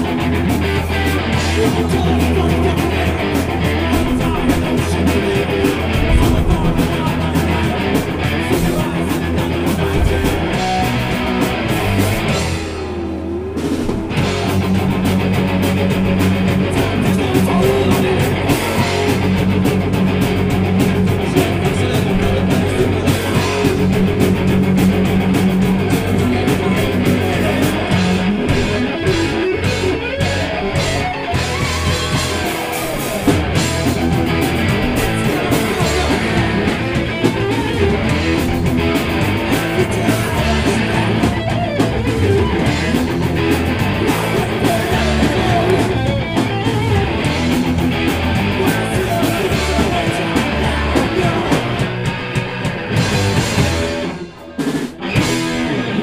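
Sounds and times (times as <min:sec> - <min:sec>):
heavy rock band playing: 0:00.0 - 0:56.0.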